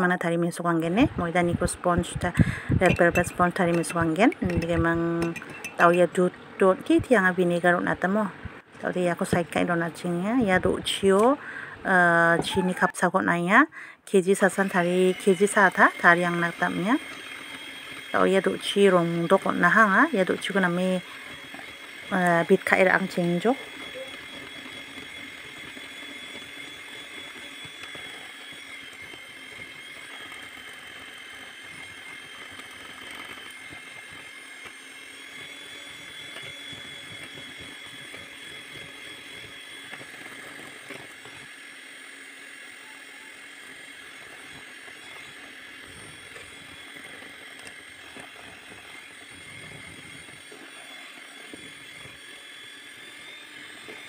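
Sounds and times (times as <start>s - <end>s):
electric hand mixer whining: 0.8s - 54.0s.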